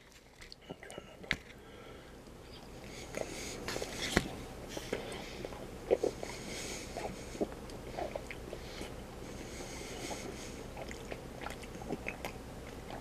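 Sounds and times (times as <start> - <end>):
person chewing soft food: 0.0 - 13.0.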